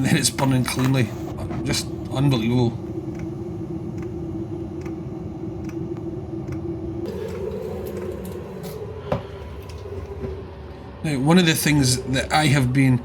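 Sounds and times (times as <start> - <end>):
heater fan hum: 0.0 - 13.0.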